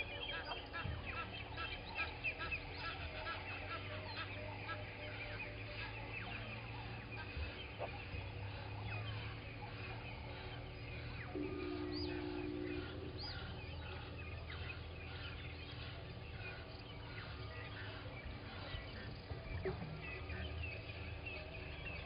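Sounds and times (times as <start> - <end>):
birds chorus: 0.0 - 22.0
steady low hum: 0.0 - 22.0.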